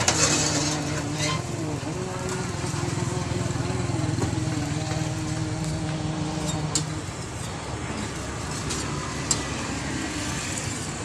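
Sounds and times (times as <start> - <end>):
engine hum: 0.0 - 11.0
street noise: 0.0 - 11.0.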